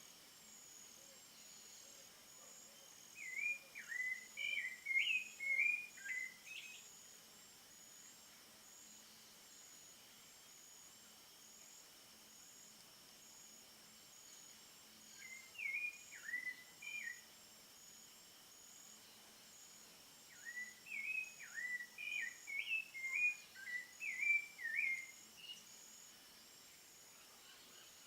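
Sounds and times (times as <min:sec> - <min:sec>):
pulsing insect chirr: 0:00.0 - 0:28.0.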